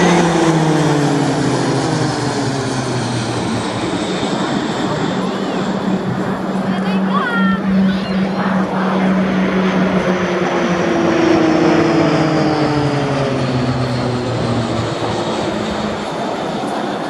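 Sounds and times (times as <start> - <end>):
propeller aircraft flying past: 0.0 - 17.0.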